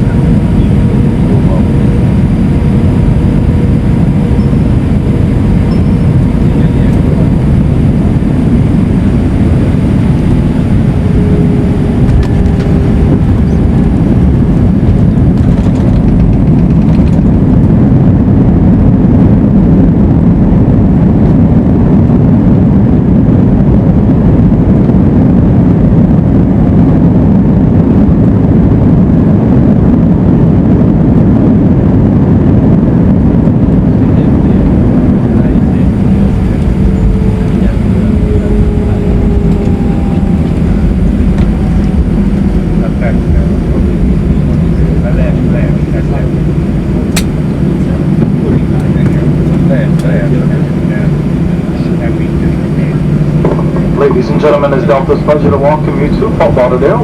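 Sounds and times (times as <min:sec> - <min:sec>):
aircraft cabin engine rumble: 0:00.0 - 0:57.0
faint steady whines: 0:00.0 - 0:57.0.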